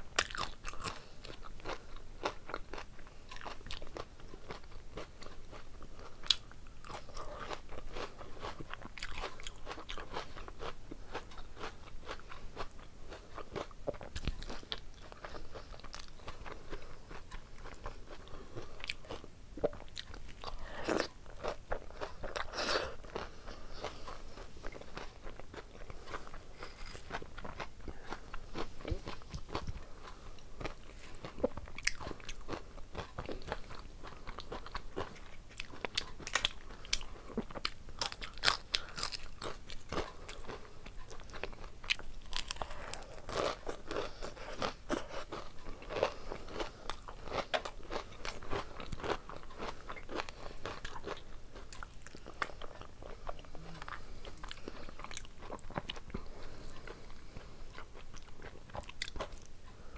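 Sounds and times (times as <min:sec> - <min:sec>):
crunching and chewing food: 0:00.0 - 0:59.9.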